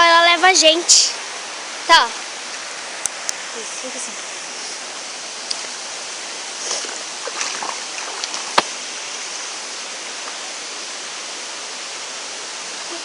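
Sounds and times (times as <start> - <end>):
waterfall rushing: 0.0 - 13.0
water splashes: 1.8 - 13.0.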